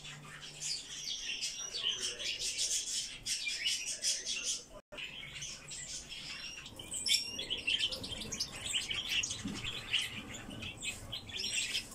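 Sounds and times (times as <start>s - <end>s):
birds chirping and calling: 0.0s - 11.9s.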